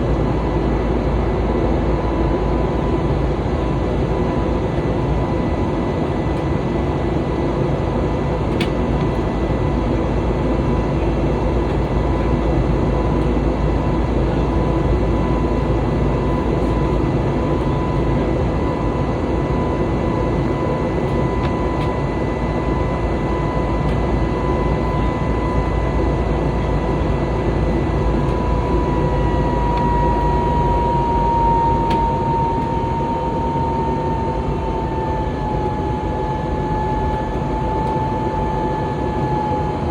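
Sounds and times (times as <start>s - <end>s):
airliner cabin noise: 0.0s - 39.9s
high engine whine: 0.0s - 39.9s.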